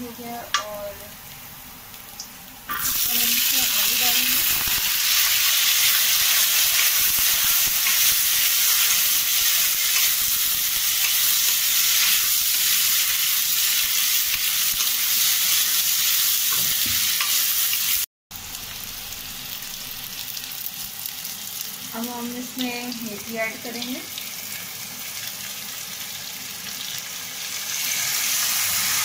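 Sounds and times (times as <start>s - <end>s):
potatoes sizzling in oil: 0.0s - 29.0s.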